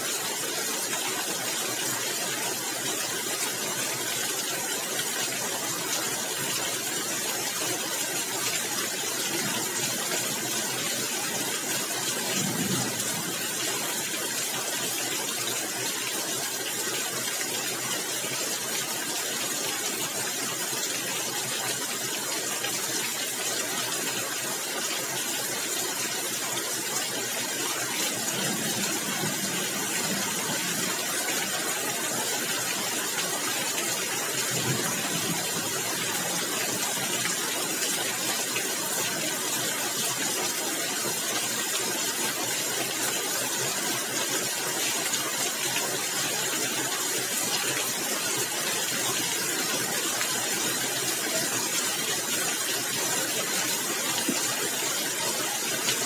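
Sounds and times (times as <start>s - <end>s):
rain on roof tiles: 0.0s - 56.0s.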